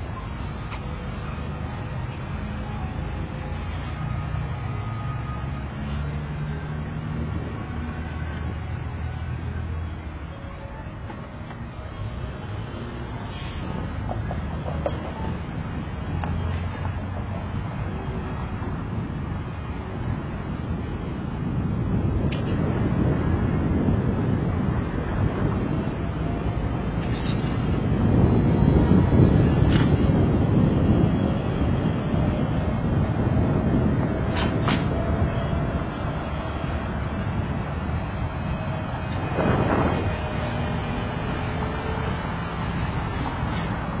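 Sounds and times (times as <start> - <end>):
car engines rumbling: 0.0 - 44.0
wind rush on microphone: 5.6 - 10.2, 10.8 - 44.0.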